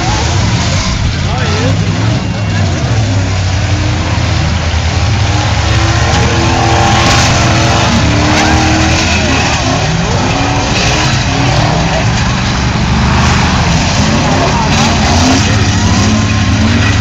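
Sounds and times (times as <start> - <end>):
car engines revving hard: 0.0 - 17.0
crowd voices: 0.0 - 17.0.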